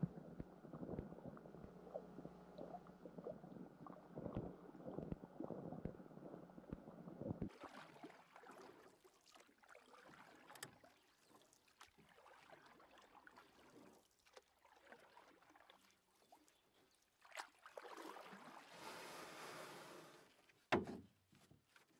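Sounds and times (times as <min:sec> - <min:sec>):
muffled underwater water noise: 0:00.0 - 0:21.9.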